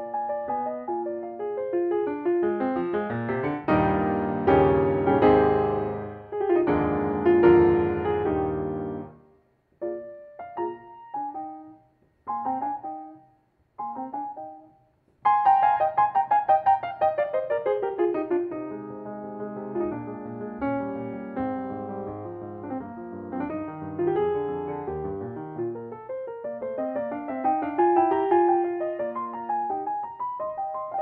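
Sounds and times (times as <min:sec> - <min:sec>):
grand piano playing: 0:00.0 - 0:09.2, 0:09.8 - 0:31.0.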